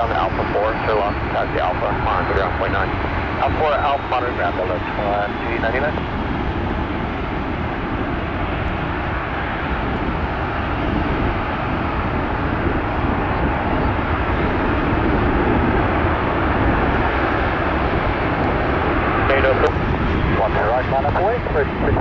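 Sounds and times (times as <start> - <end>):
jet engine rumble and hiss: 0.0 - 22.0.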